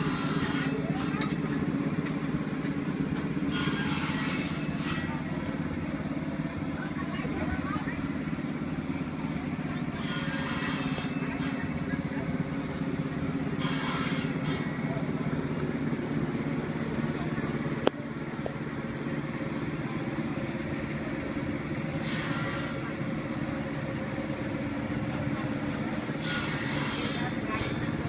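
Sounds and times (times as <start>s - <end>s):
voices: 0.0s - 22.0s, 22.6s - 28.0s
motorbike and vehicle engines: 0.0s - 28.0s.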